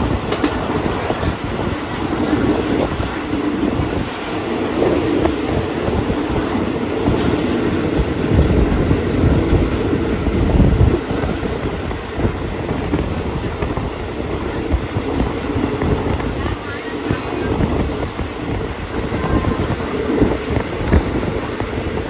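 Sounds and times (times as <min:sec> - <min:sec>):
train wheels rumbling on rails: 0:00.0 - 0:22.0
wind on microphone: 0:00.0 - 0:22.0.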